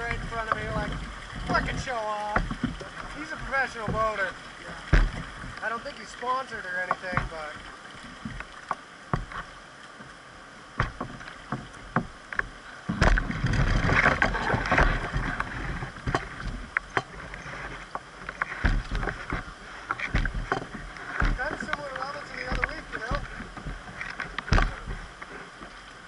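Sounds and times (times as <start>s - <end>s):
taps and knocks on hull: 0.0s - 5.8s, 6.8s - 9.5s, 10.8s - 25.8s
rush of water: 0.0s - 26.0s
water splashing against canoe: 0.0s - 26.0s.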